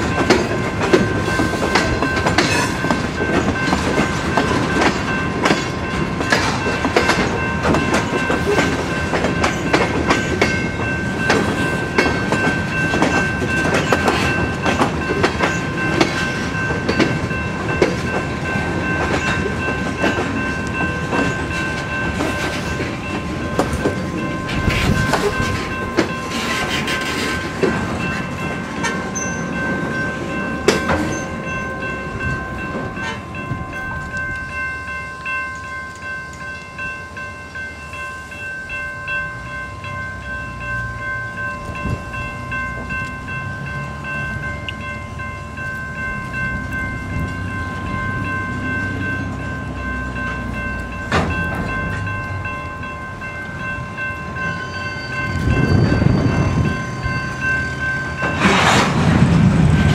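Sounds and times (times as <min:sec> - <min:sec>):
train wheels clicking over rail joints: 0:00.0 - 0:34.6, 0:40.6 - 0:59.9
crossing warning bell ringing: 0:00.0 - 0:59.9.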